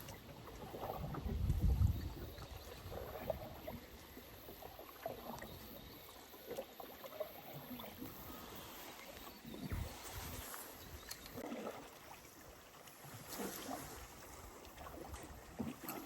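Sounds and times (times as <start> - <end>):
water lapping against canoe hull: 0.0 - 16.0.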